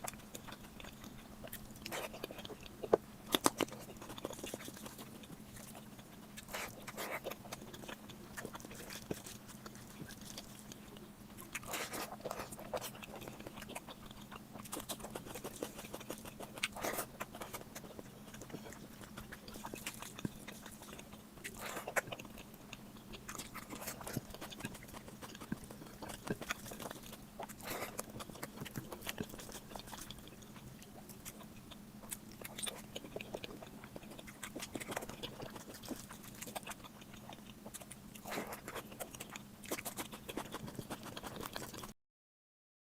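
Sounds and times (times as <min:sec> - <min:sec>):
low steady hum: 0:00.0 - 0:42.0
person chewing food: 0:00.0 - 0:42.0.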